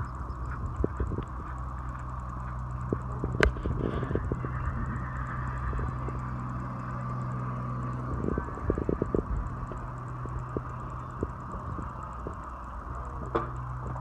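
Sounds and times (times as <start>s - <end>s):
steady engine-like hum: 0.0s - 14.0s.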